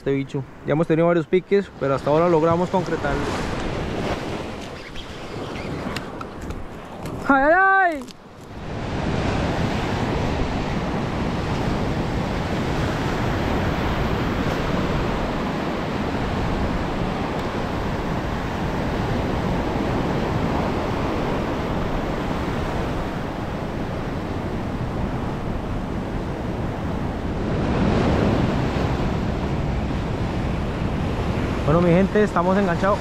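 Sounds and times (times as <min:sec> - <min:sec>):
ocean surf breaking: 0:00.0 - 0:33.0.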